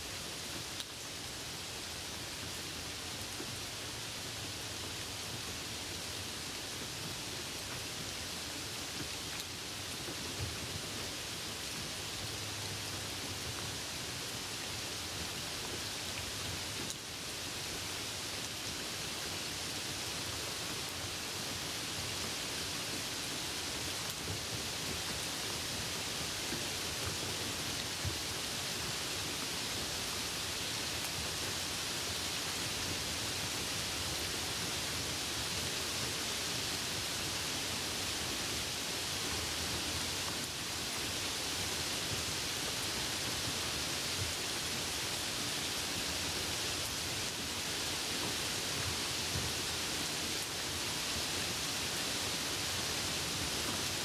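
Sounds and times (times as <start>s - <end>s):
rain hissing: 0.1s - 54.0s.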